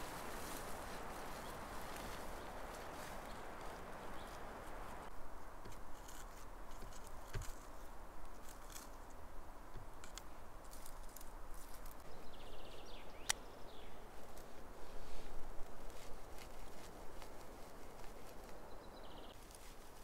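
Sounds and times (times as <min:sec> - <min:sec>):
twigs crackling underfoot: 0:00.0 - 0:20.0.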